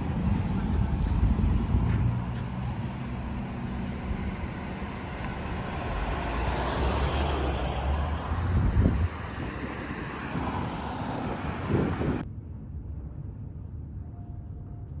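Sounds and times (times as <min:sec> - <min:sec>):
vehicle rumble: 0:00.0 - 0:15.0
wind noise: 0:00.0 - 0:15.0.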